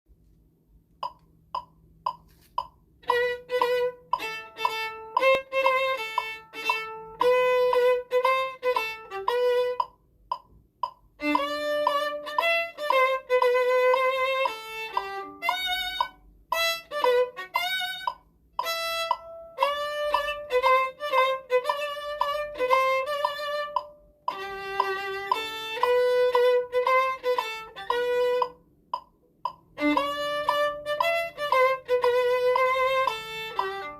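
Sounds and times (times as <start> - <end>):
solo violin melody: 3.0 - 10.0, 11.2 - 28.9, 29.6 - 33.9.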